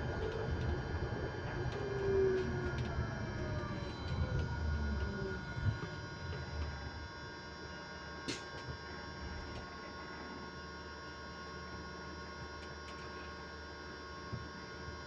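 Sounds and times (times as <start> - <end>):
electrical high-pitched whine: 0.0 - 15.0
low electrical hum: 0.0 - 15.0.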